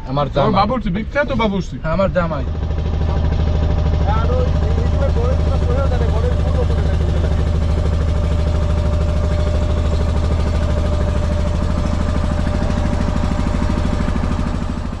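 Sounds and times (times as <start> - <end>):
boat engine low pulse: 0.0 - 15.0.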